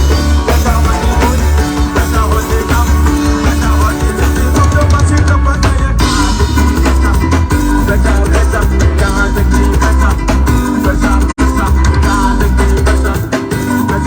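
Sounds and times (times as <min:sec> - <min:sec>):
live band playing loudly: 0:00.0 - 0:14.0.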